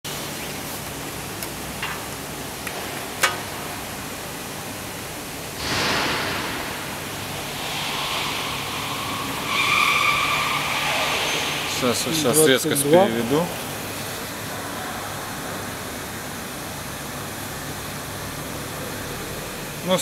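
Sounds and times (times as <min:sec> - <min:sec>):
steady rushing hiss: 0:00.1 - 0:20.0.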